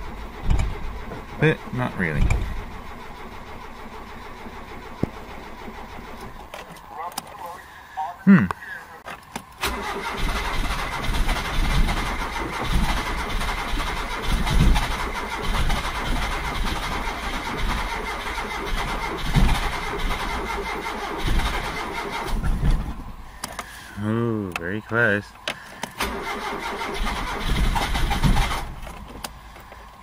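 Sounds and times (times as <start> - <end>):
car engine cranking on starter: 0.0 - 7.8, 9.1 - 30.0.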